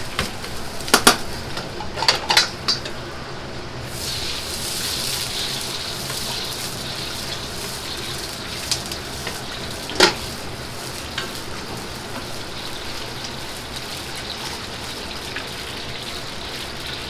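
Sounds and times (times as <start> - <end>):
hot oil sizzling: 0.0 - 17.0
roaring gas burner: 0.0 - 17.0.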